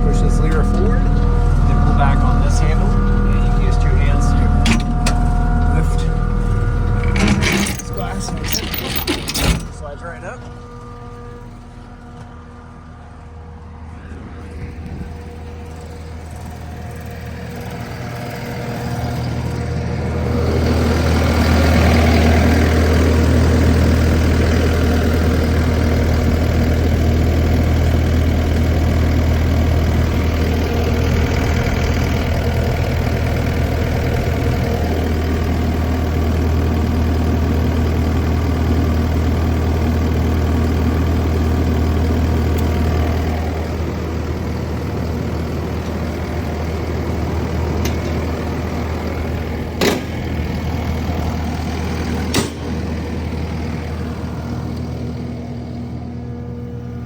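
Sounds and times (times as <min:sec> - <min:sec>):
compact loader diesel engine running: 0:00.0 - 0:57.0.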